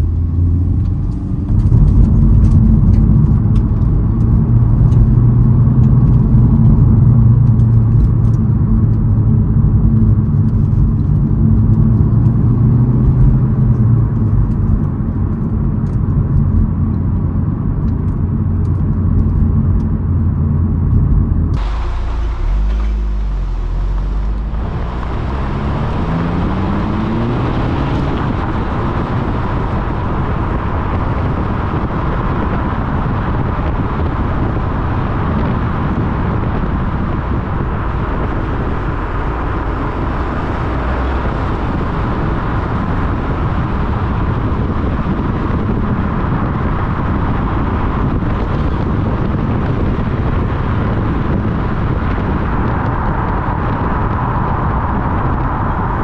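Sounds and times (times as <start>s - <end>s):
car engine accelerating: 0.0s - 56.0s
road and tyre noise: 0.0s - 56.0s.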